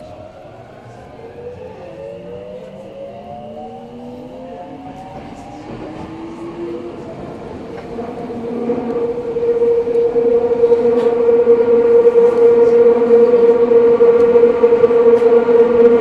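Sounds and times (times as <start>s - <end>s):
subway train motor whine: 0.0s - 16.0s.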